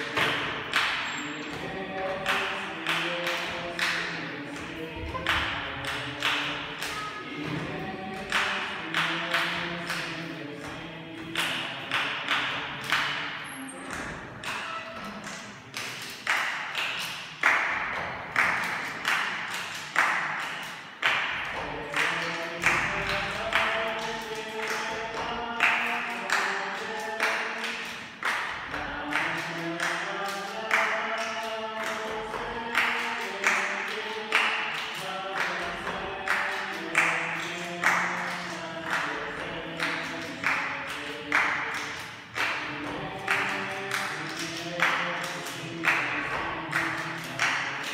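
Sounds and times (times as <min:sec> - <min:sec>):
hand claps keeping a beat: 0:00.0 - 0:47.9.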